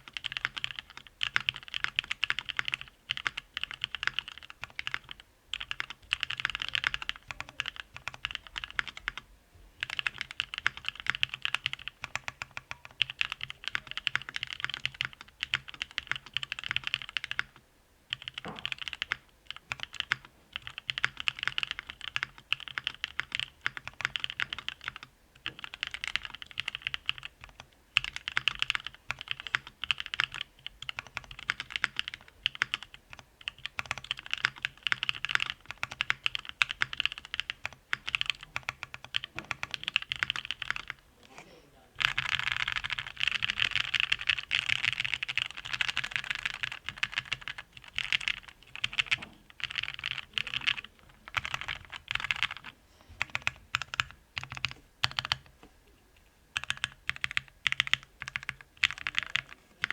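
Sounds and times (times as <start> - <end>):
mechanical keyboard typing: 0.0 - 9.2, 9.8 - 41.0, 42.0 - 55.6, 56.6 - 59.9.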